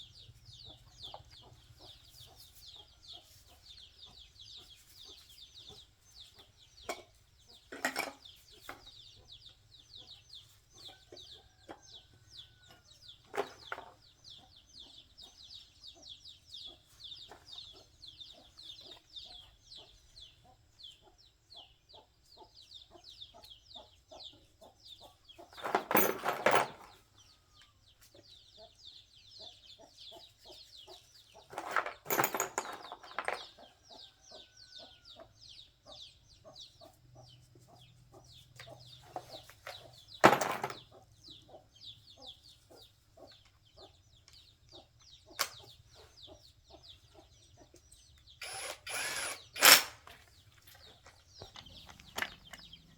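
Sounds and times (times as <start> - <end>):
chicks peeping: 0.0 - 25.5, 27.2 - 31.5, 33.4 - 40.2, 40.8 - 48.4, 50.8 - 52.9.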